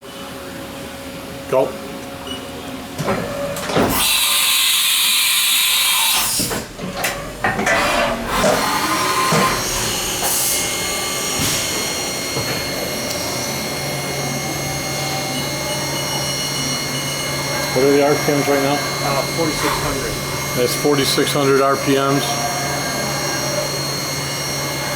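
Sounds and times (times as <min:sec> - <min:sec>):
machine spindle high-pitched whine: 0:00.1 - 0:24.9.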